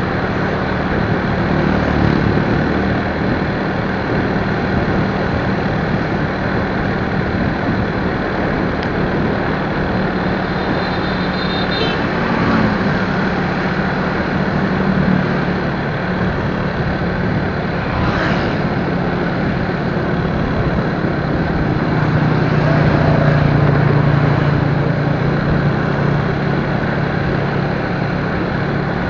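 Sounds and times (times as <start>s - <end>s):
motorcycle engine hum: 0.0s - 29.0s
wind and road noise: 0.0s - 29.0s.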